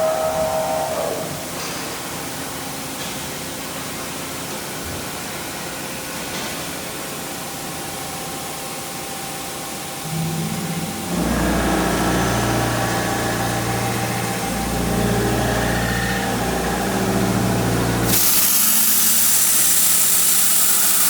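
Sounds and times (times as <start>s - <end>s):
machine running with hiss: 0.6s - 21.0s.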